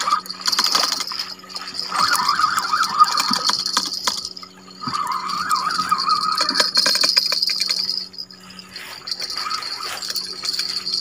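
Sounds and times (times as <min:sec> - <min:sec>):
fishing reel gears rattling: 0:00.0 - 0:11.0.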